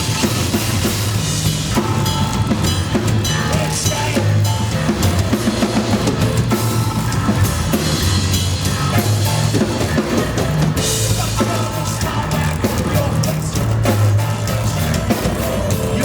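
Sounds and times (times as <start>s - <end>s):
bass drum and snare hits: 0.0s - 16.0s
rock band playing: 0.0s - 16.0s.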